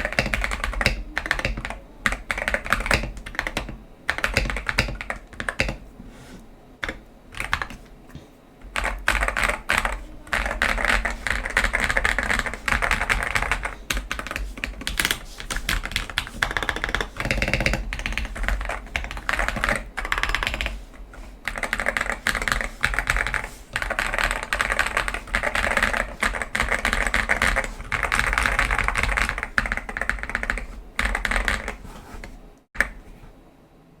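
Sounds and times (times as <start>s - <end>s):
fast typing on mechanical keyboard: 0.0s - 5.8s, 6.8s - 7.9s, 8.6s - 33.1s.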